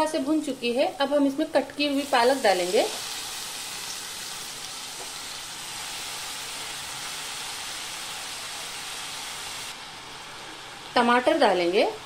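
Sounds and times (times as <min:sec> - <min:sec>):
spinach sizzling in hot oil: 0:00.0 - 0:12.0.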